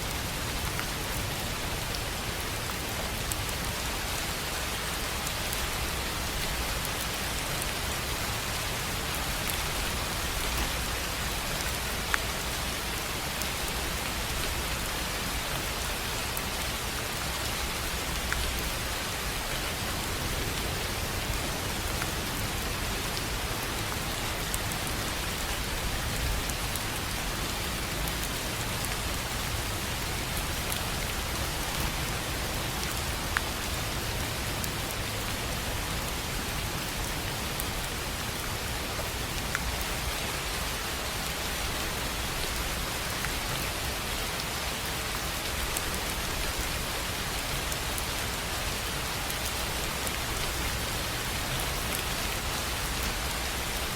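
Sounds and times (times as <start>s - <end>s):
rain on a tin roof: 0.0s - 53.9s.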